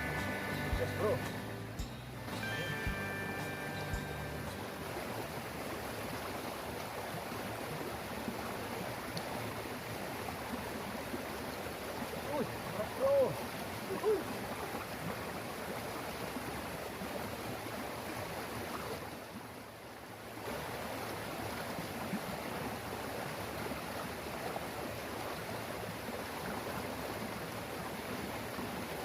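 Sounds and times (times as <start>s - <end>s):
flowing stream water: 0.0s - 29.0s.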